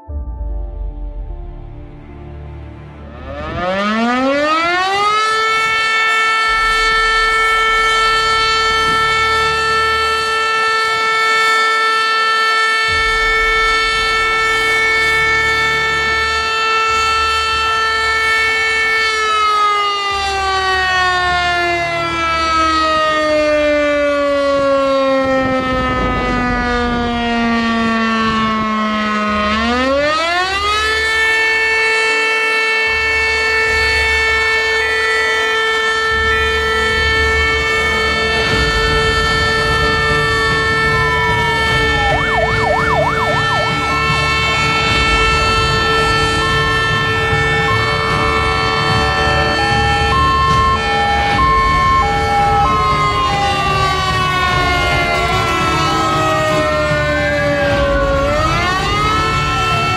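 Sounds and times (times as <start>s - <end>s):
civil defense siren wailing: 0.0s - 59.9s.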